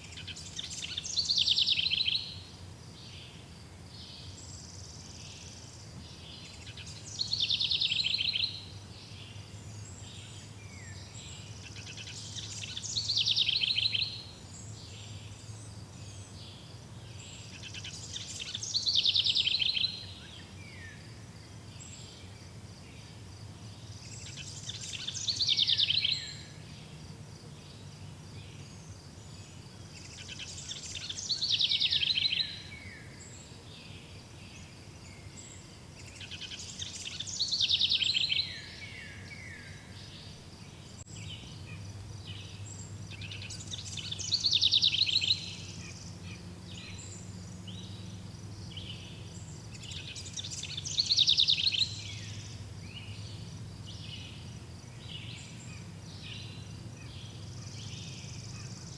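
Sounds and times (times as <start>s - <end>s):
insects chirring: 4.6s - 33.4s, 34.0s - 58.9s.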